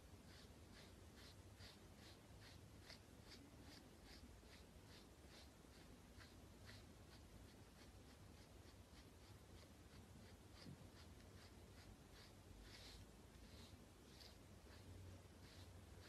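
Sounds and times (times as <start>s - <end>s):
brush scratching through fur: 0.0s - 16.0s.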